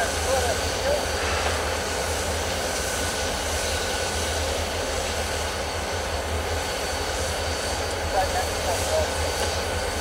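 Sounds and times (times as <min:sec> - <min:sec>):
diesel locomotive engine hum: 0:00.0 - 0:10.0.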